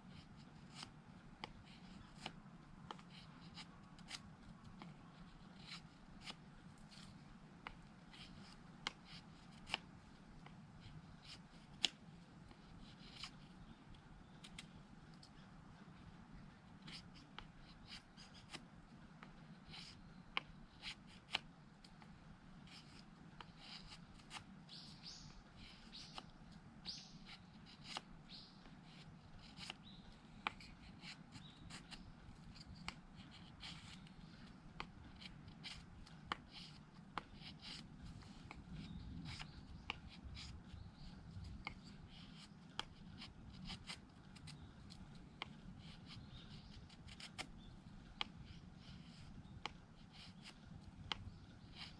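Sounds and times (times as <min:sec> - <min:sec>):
knife shaving wood: 0:00.1 - 0:51.9.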